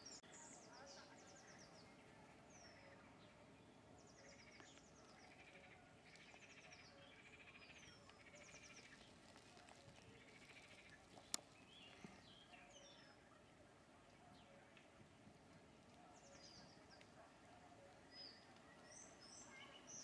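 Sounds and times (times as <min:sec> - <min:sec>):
birds singing: 0:00.0 - 0:15.0, 0:15.6 - 0:20.0.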